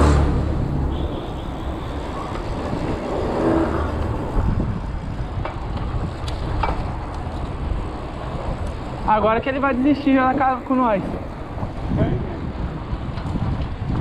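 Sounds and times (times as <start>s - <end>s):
bicycle rolling on asphalt: 0.4s - 14.0s
wind over microphone: 0.5s - 14.0s.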